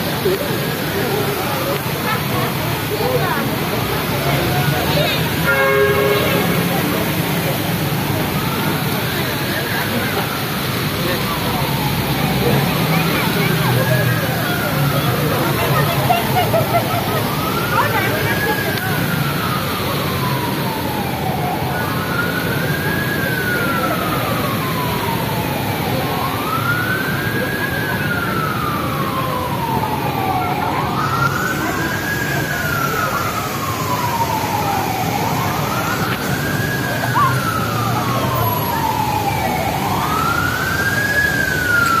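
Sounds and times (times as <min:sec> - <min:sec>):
city street noise: 0:00.0 - 0:42.0
emergency vehicle siren wailing: 0:00.0 - 0:42.0.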